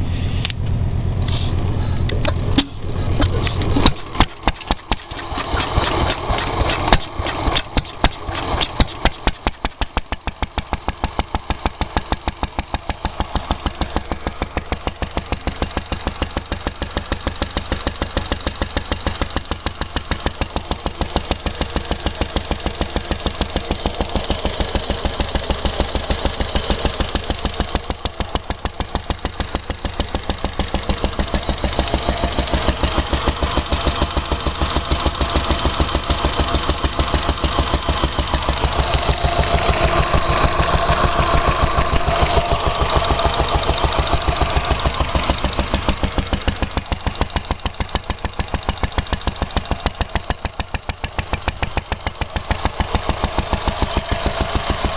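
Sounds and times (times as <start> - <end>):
stationary engine running: 0.0 - 54.9.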